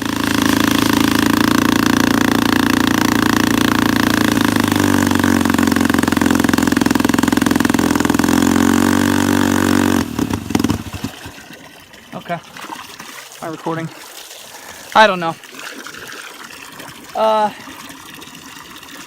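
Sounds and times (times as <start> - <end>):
two-stroke outboard motor running: 0.0 - 19.0.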